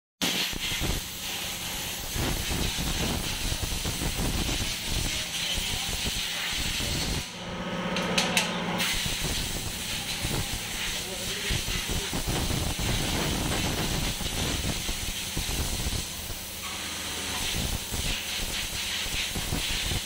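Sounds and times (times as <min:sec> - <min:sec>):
high-pressure spray hissing: 0:00.2 - 0:07.3, 0:08.8 - 0:20.0.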